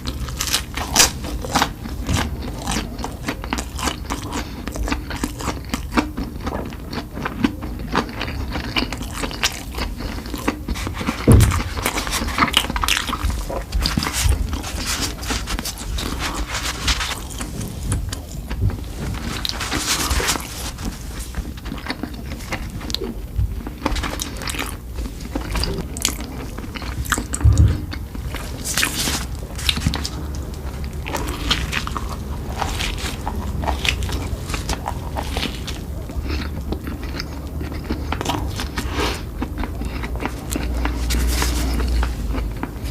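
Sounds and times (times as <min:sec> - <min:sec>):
person chewing food: 0:00.0 - 0:42.9.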